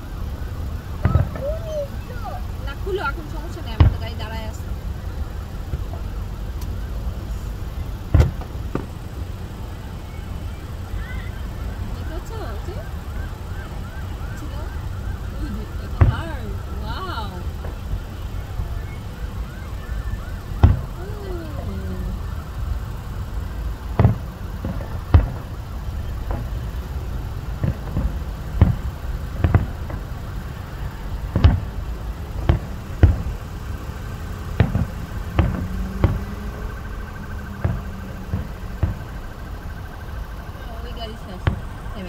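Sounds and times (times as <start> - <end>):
distant fireworks booms: 0.0 - 42.0
steady low rumble: 0.0 - 42.0.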